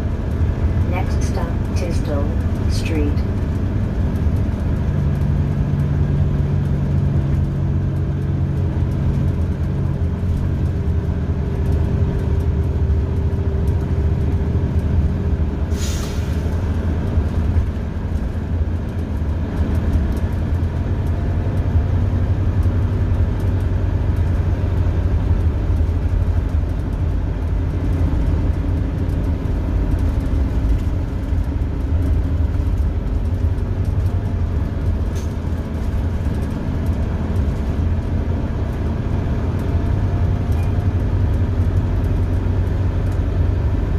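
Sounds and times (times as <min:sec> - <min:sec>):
bus engine rumbling: 0:00.0 - 0:43.9
road noise: 0:00.0 - 0:43.9.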